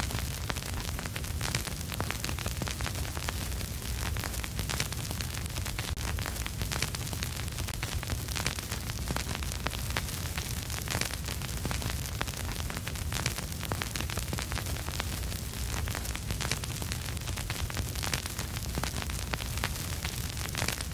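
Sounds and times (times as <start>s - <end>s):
record hiss: 0.0s - 20.9s
vinyl crackle and pops: 0.0s - 20.9s.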